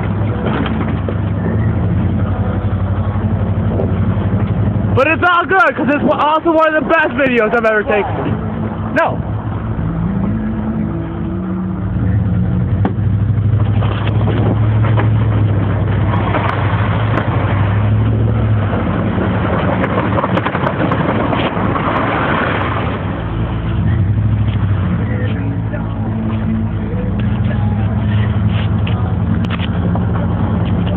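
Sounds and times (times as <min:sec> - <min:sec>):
pickup truck engine droning: 0:00.0 - 0:30.9
rushing wind and road noise: 0:00.0 - 0:30.9
truck plowing snow: 0:00.0 - 0:30.9.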